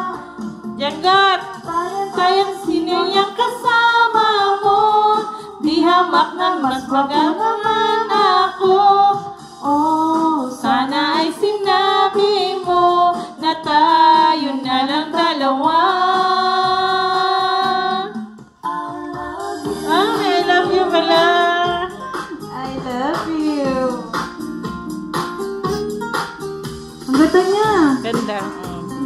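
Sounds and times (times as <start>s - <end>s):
woman singing karaoke: 0.0s - 24.2s, 27.0s - 29.0s.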